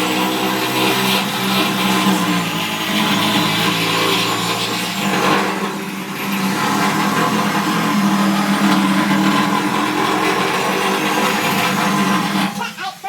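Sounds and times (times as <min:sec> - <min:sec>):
power tool grinding steel: 0:00.0 - 0:13.0.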